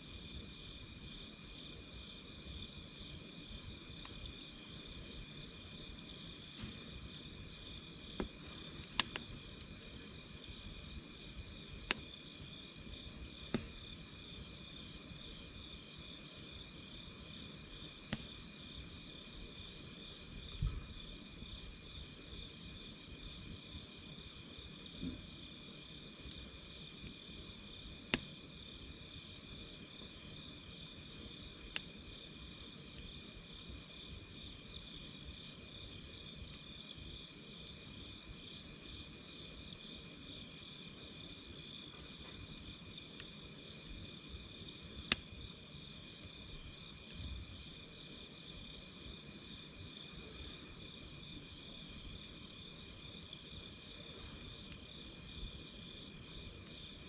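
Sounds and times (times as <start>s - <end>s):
campfire crackling and popping: 0.0s - 57.0s
insects chirping: 0.0s - 57.0s.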